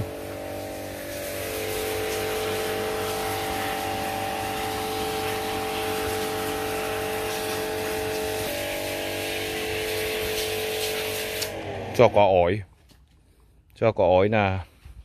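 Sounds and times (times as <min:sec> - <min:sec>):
motor humming: 0:00.0 - 0:12.4.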